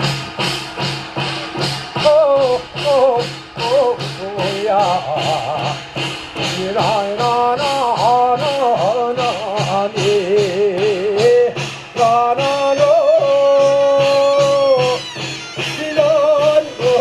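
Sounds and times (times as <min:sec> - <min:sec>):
steady percussion strikes: 0:00.0 - 0:17.0.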